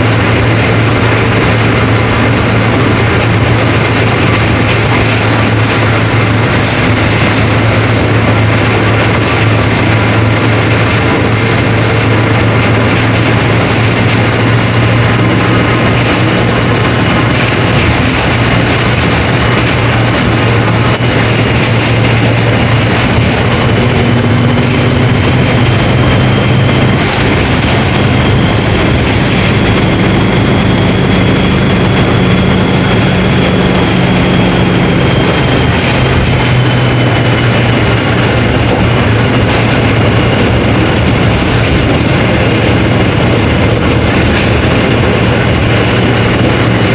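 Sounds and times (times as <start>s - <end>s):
bus engine drone: 0.0s - 46.9s
road and body rumble: 0.0s - 46.9s.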